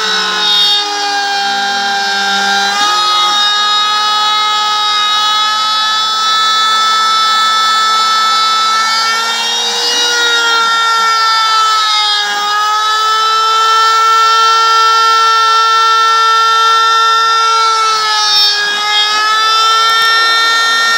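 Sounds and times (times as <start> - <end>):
router spindle milling plywood: 0.0 - 20.9.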